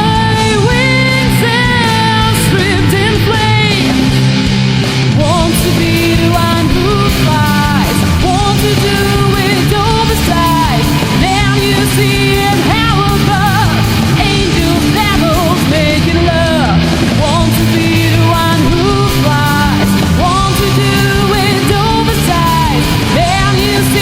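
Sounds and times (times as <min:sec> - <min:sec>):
alternative rock band playing: 0:00.0 - 0:24.0
pitch-bending lead melody: 0:00.0 - 0:24.0.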